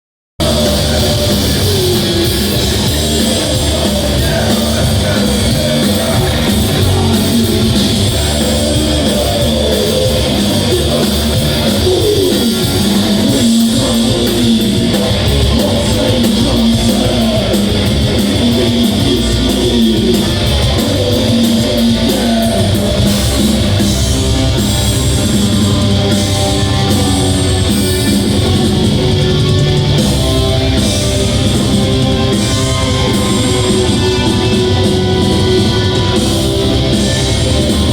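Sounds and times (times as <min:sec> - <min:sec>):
heavy metal band playing live: 0:00.4 - 0:37.9.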